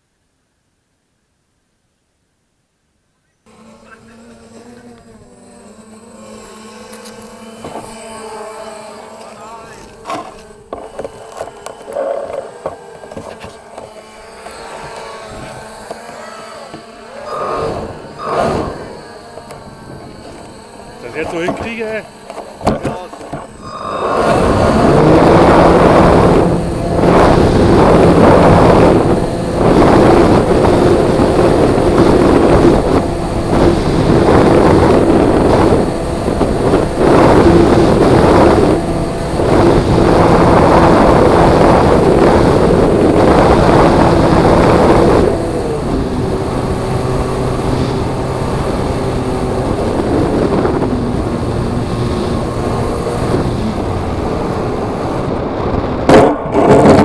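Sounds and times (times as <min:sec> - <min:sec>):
model aircraft motor whine: 0:03.5 - 0:56.0.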